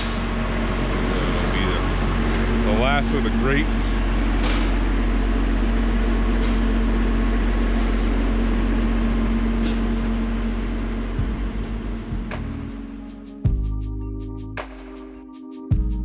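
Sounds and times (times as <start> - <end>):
machine drone with low hum: 0.0 - 14.9.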